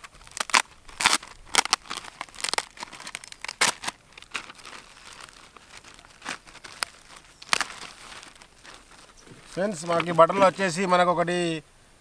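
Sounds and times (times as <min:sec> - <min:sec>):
paper and packaging crinkling: 0:00.0 - 0:11.0.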